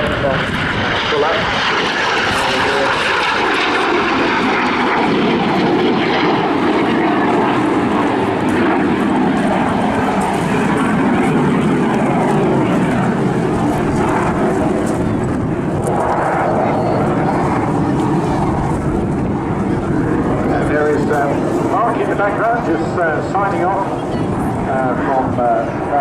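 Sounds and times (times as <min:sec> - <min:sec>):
jet engine roar and hiss: 0:00.0 - 0:26.0.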